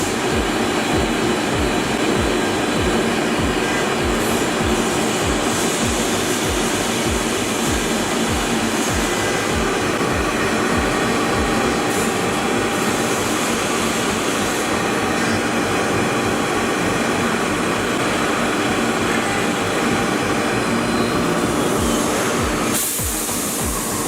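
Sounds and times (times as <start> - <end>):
milling machine running: 0.0 - 24.0.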